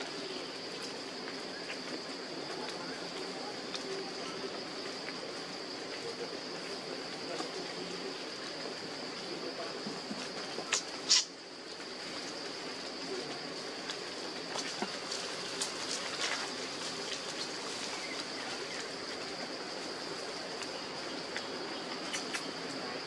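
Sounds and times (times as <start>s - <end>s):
even hiss: 0.0s - 23.0s.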